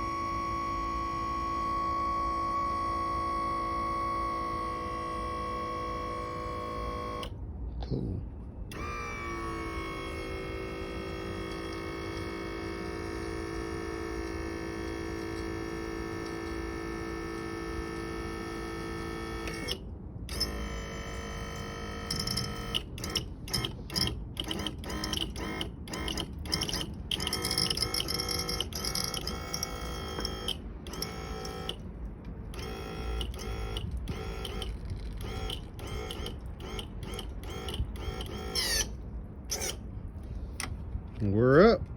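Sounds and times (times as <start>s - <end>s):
electric pump motor whine: 0.0s - 7.4s, 8.7s - 39.9s.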